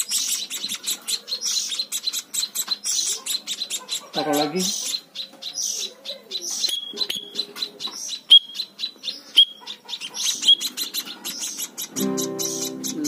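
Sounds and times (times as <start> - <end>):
young bird chirping: 0.0 - 13.0.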